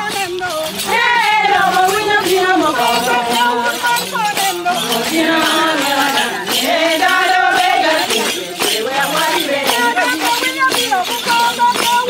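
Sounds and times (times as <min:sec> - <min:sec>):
jingling percussion: 0:00.0 - 0:12.0
women singing together: 0:00.0 - 0:12.0.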